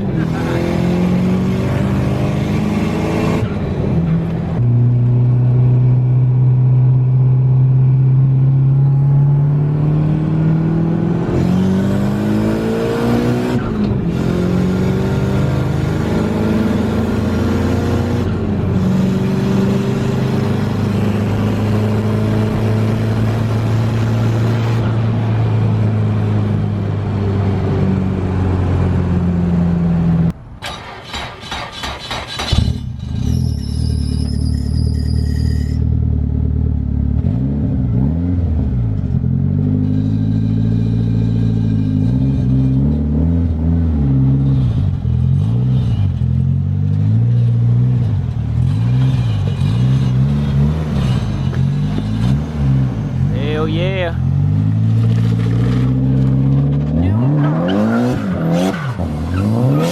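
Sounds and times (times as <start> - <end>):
car engine revving: 0.0 - 6.4, 8.3 - 34.3, 36.3 - 59.9.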